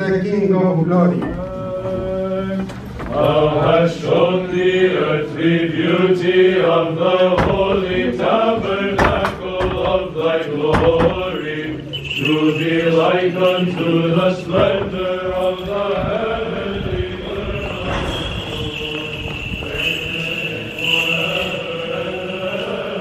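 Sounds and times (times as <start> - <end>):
voices chanting: 0.0 - 23.0.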